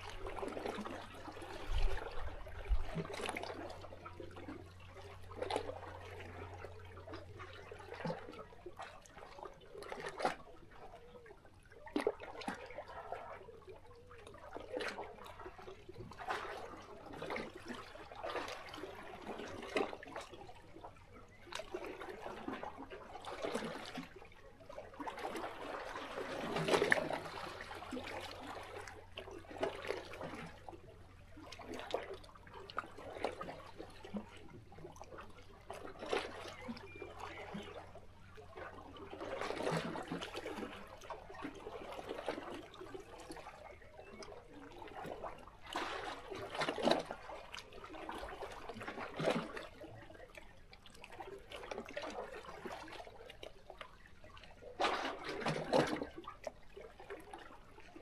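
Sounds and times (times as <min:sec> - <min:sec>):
waves lapping against rocks: 0:00.0 - 0:58.0.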